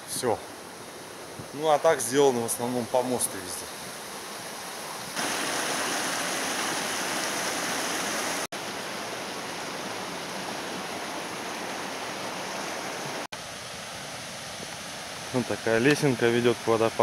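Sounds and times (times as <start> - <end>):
stream water flowing: 0.3 - 17.0.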